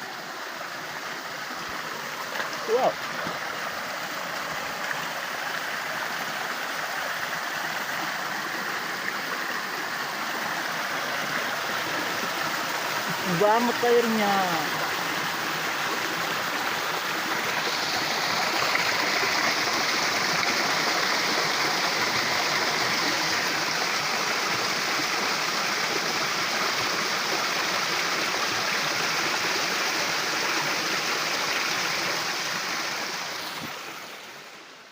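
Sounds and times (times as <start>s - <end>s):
waterfall rushing: 0.0s - 34.8s.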